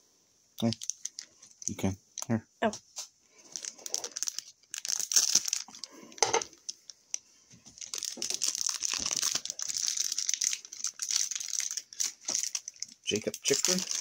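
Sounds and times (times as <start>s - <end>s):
card pack wrappers crinkling: 0.6s - 2.3s, 3.0s - 14.0s.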